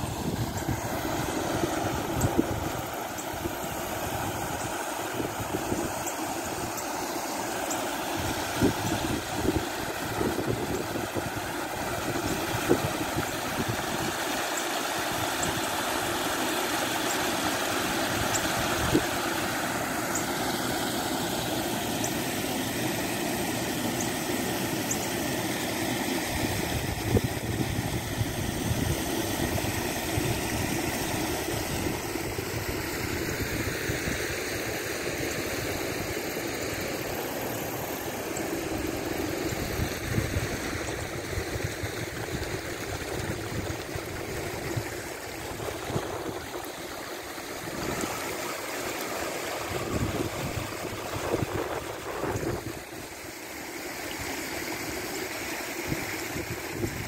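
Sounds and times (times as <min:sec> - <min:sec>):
creek water rushing over rocks: 0:00.0 - 0:57.0.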